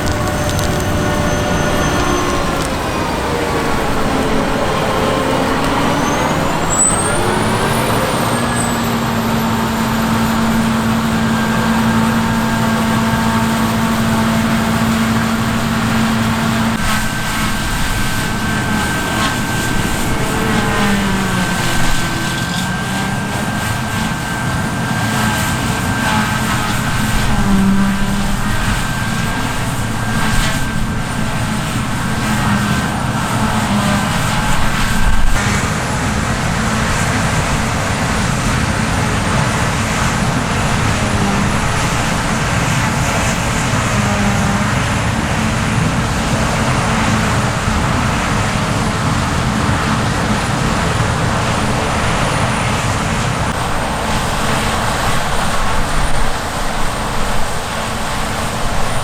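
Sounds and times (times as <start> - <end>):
harvest machinery running: 0.0 - 59.0.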